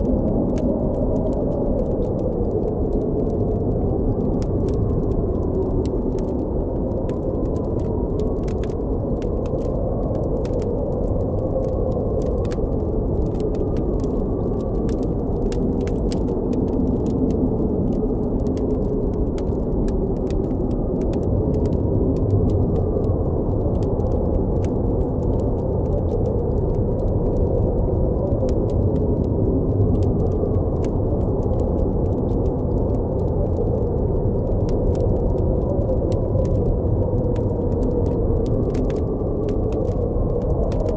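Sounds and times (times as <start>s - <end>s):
blizzard wind blowing: 0.0s - 40.9s
campfire crackling and popping: 0.0s - 40.9s.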